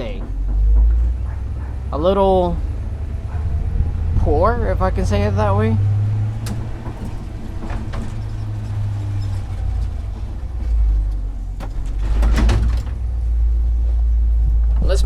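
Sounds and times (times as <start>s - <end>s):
vehicle cabin drone: 0.0s - 15.0s.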